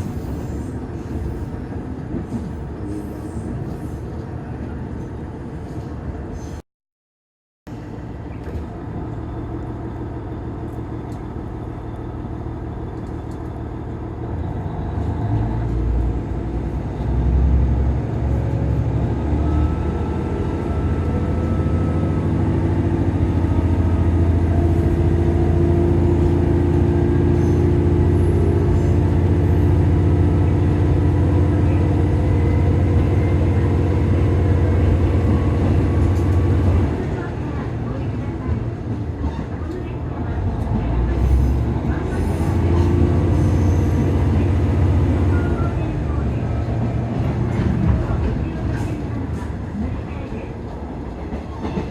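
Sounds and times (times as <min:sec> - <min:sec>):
diesel railcar engine drone: 0:00.0 - 0:06.6, 0:07.7 - 0:51.9.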